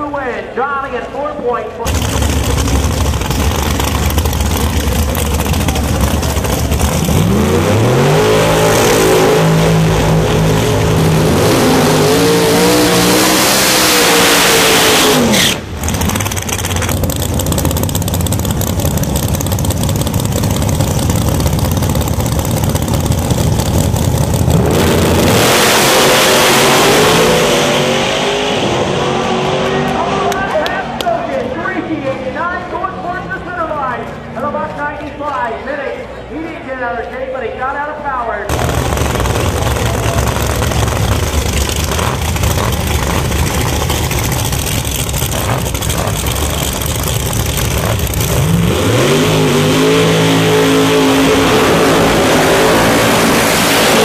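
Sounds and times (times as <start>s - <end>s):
drag car engines revving: 1.7s - 34.8s, 38.5s - 54.0s.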